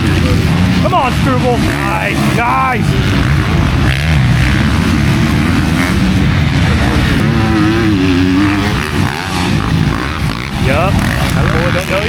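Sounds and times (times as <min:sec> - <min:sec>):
motocross bikes racing past: 0:00.0 - 0:12.0.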